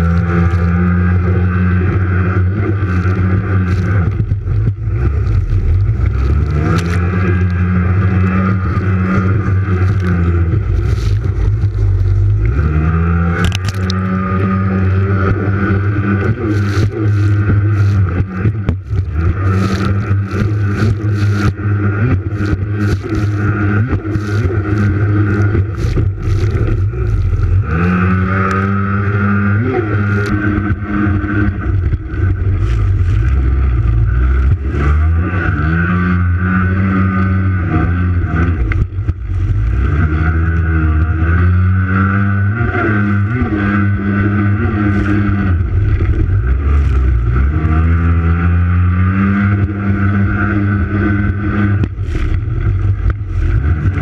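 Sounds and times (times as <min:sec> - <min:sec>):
jet ski engine running hard: 0:00.0 - 0:54.0
water spray slapping hull: 0:00.0 - 0:54.0.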